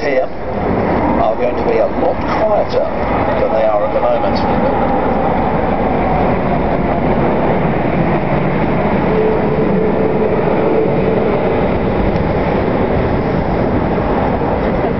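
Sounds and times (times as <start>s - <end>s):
jet engine rumble: 0.0s - 14.9s.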